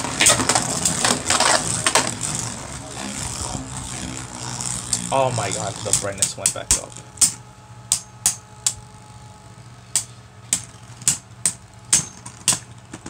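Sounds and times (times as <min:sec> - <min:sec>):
spinning tops whirring: 0:00.0 - 0:13.0.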